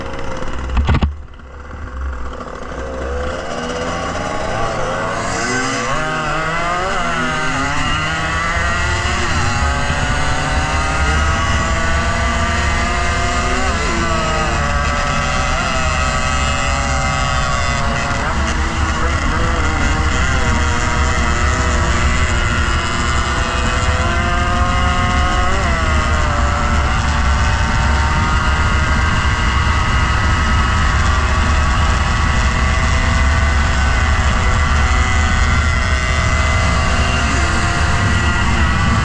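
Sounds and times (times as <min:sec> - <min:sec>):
motorcycle engine running: 0:00.0 - 0:39.0
wind rumble on microphone: 0:00.0 - 0:39.0.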